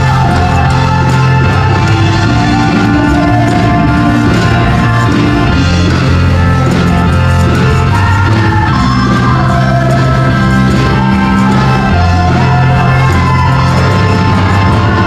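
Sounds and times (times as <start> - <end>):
amplified band with bass line: 0.0 - 15.0
women singing into microphones: 0.0 - 15.0.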